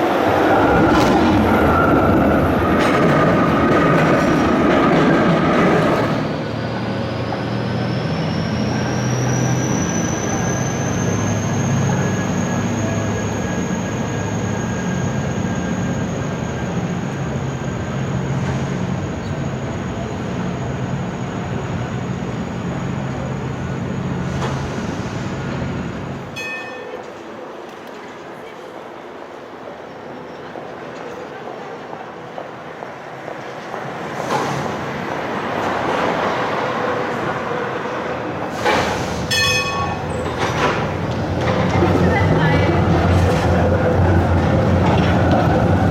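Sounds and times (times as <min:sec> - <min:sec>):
tram rumbling on rails: 0:00.0 - 0:45.9.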